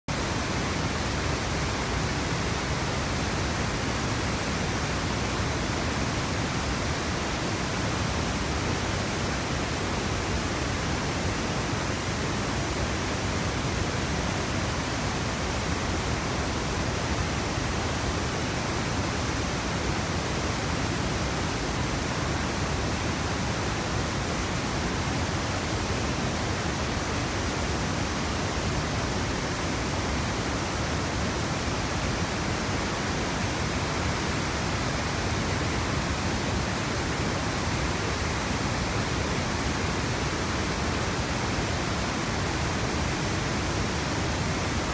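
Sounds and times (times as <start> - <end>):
roaring floodwater waterfall: 0.1 - 44.9.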